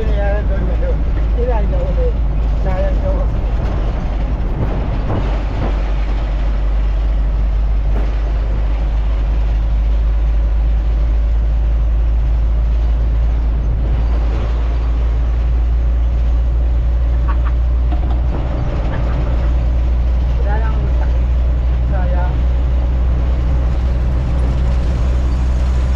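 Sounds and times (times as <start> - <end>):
road noise: 0.0 - 25.9
truck engine rumble: 0.0 - 25.9.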